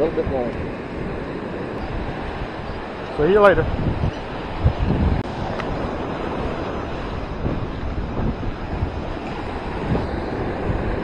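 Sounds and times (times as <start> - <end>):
small waves washing in: 0.0 - 11.0
wind buffeting microphone: 0.0 - 11.0.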